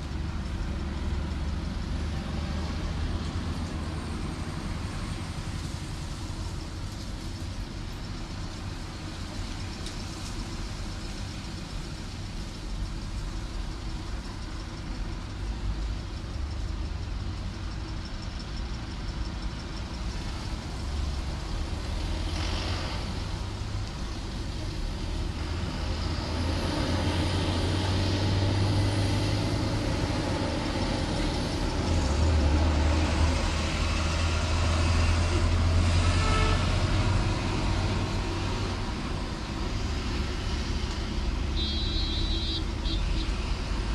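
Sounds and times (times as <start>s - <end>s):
heavy vehicle engine rumbling: 0.0s - 43.9s
road noise: 0.0s - 43.9s.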